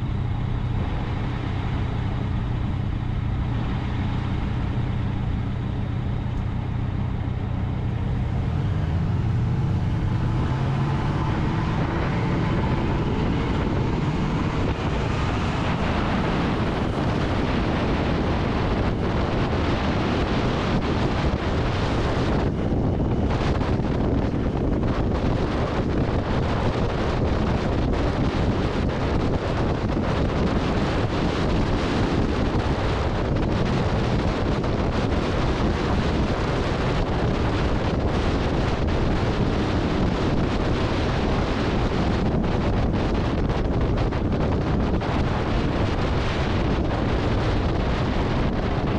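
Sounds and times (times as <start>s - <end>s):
motorcycle engine accelerating: 0.0s - 48.9s
wind noise on microphone: 0.0s - 48.9s.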